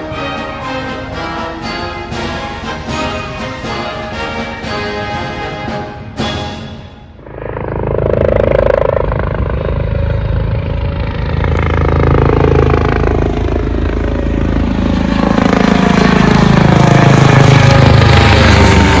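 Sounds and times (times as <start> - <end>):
helicopter rotor and turbine: 0.0 - 19.0.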